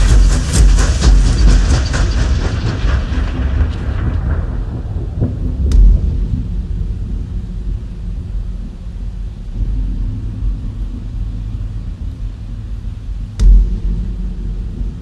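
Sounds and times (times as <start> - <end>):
deep machine rumble: 0.0 - 15.0
faint hum: 0.0 - 15.0.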